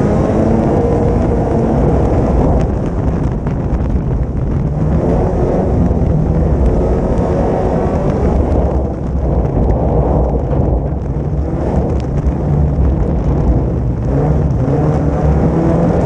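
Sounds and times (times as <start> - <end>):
race car engine running hard: 0.0 - 16.0
wind noise on microphone: 0.0 - 16.0.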